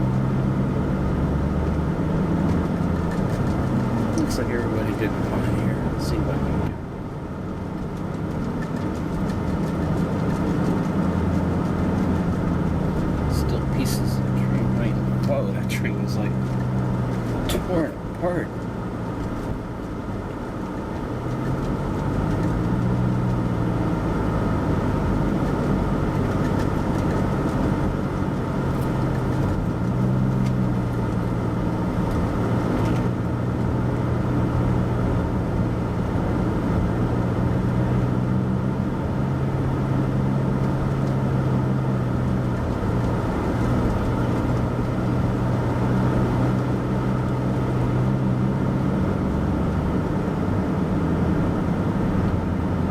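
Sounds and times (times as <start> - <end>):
car engine: 0.0 - 52.9.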